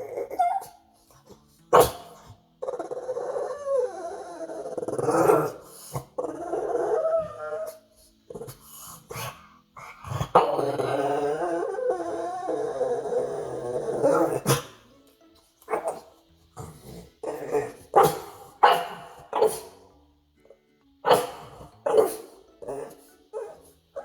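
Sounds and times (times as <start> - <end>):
dog growling and whining: 0.0 - 14.8, 15.7 - 18.5, 21.1 - 24.0.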